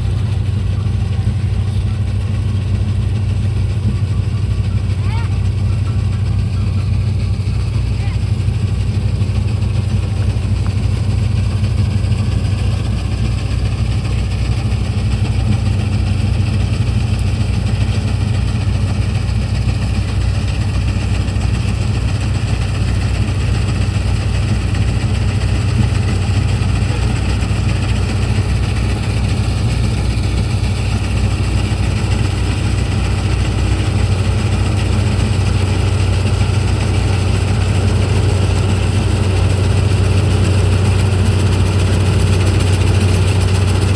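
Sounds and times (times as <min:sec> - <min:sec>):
combine harvester diesel engine: 0:00.0 - 0:43.9.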